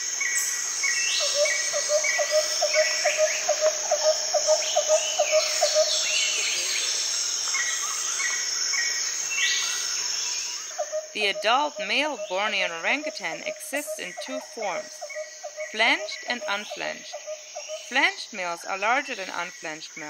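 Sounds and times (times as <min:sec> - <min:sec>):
rapid lower bird calls: 0:00.0 - 0:18.0
high-pitched insect drone: 0:00.0 - 0:20.0
short insect chirp: 0:00.0 - 0:20.0.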